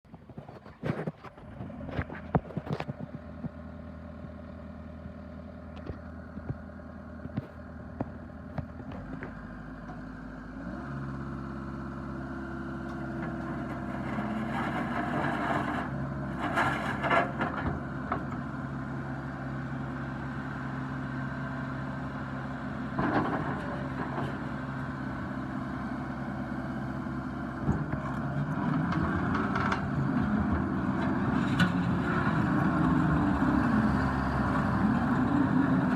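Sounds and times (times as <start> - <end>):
diesel engine running: 0.3 - 35.9.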